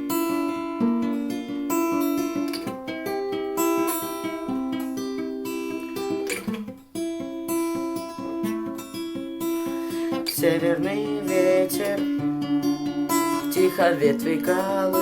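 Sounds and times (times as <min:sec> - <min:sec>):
fingerpicked acoustic guitar arpeggio: 0:00.0 - 0:15.0.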